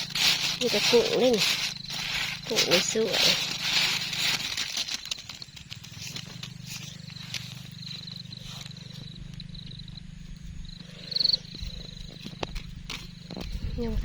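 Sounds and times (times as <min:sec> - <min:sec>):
frogs calling: 0:00.0 - 0:14.0
insects trilling: 0:00.0 - 0:14.0.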